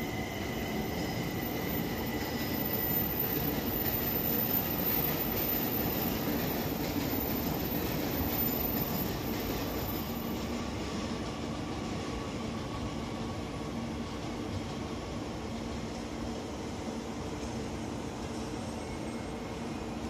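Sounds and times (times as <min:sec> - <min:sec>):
electric train pulling in: 0:00.0 - 0:20.0.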